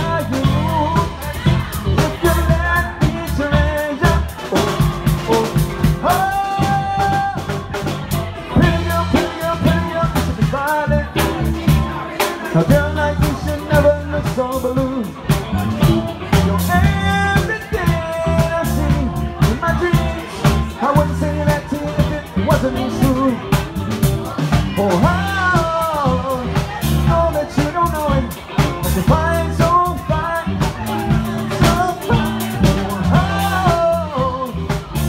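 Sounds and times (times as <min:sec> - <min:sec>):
drum kit steady beat: 0:00.0 - 0:35.0
electric bass: 0:00.0 - 0:35.0
electric guitar: 0:00.0 - 0:35.0
live band playing pop-funk: 0:00.0 - 0:35.0
man singing lead vocals: 0:00.0 - 0:35.0.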